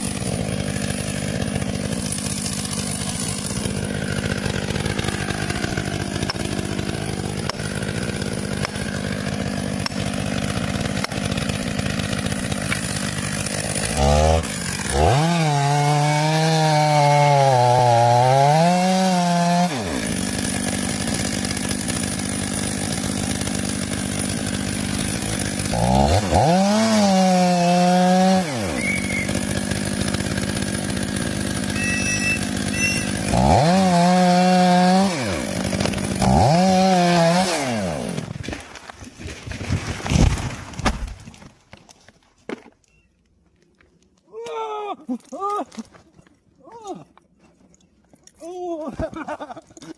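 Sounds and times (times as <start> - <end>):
chainsaw revving and cutting wood: 0.0 - 41.5.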